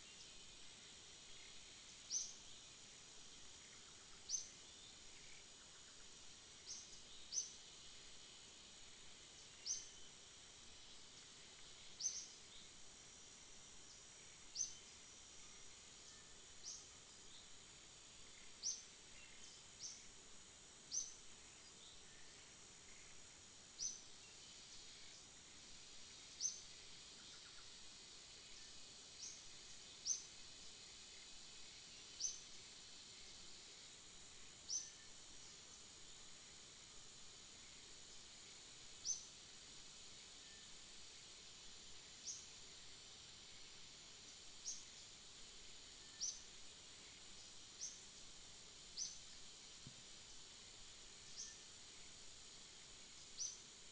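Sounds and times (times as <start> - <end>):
faint hiss: 0.0 - 53.9.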